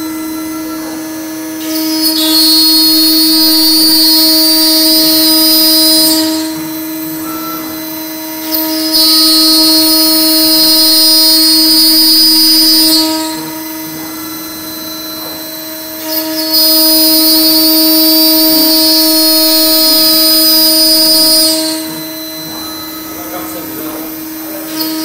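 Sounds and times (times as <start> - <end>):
bit cutting with loud hiss: 0.0 - 25.0
router spindle whining: 0.0 - 25.0.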